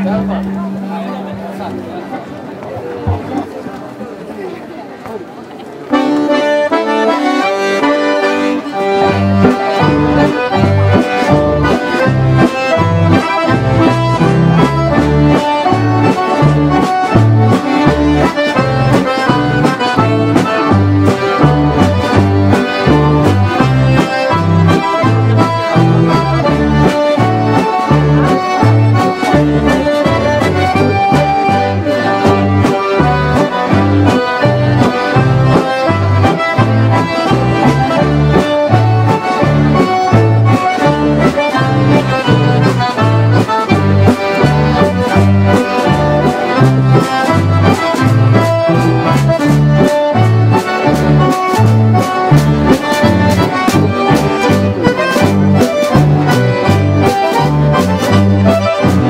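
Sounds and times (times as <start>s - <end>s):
accordions playing dance tune: 5.9s - 59.0s.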